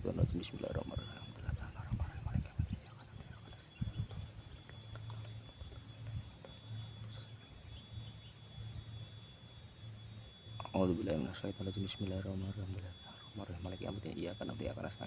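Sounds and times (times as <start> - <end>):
faint low rumble: 0.0 - 15.0
insects chirring: 0.0 - 15.0
steady high whine: 0.0 - 15.0.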